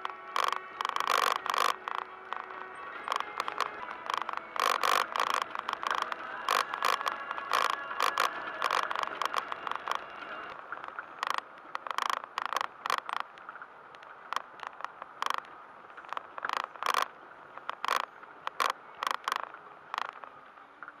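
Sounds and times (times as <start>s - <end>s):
faint road noise: 0.0s - 21.0s.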